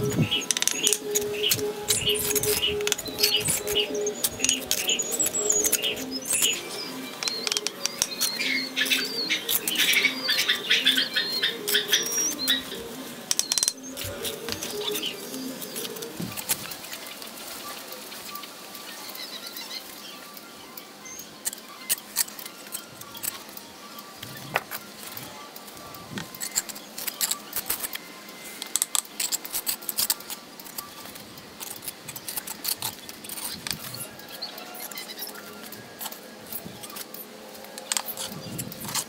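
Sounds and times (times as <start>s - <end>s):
soft background music: 0.0s - 39.0s.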